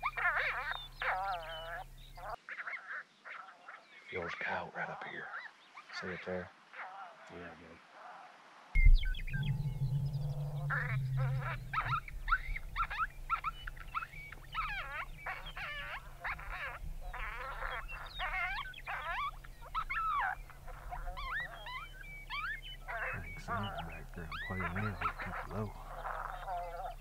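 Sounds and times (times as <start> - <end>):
coyotes yipping and howling: 0.0 - 27.0.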